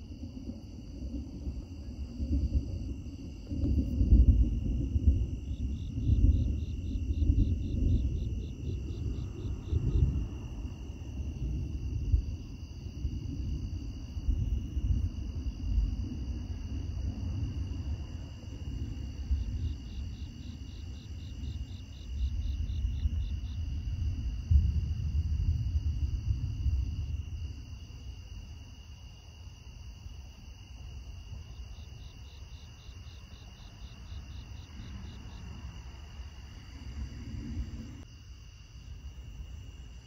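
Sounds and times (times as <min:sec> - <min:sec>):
distant thunder rumbling: 0:00.0 - 0:29.0, 0:30.9 - 0:38.1
chorus of night insects: 0:00.0 - 0:40.0
rapid pulsed insect call: 0:00.0 - 0:40.0.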